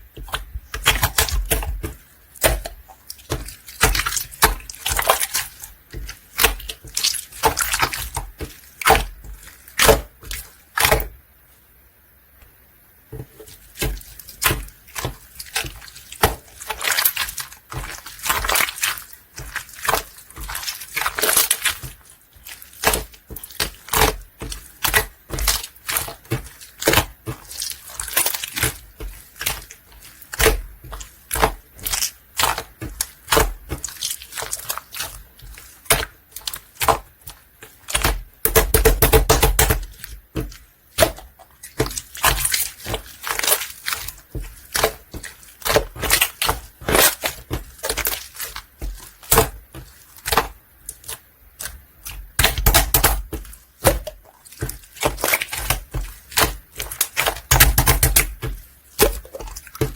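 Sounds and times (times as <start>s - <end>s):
slime squished by hand: 0.1s - 11.2s, 13.6s - 59.9s.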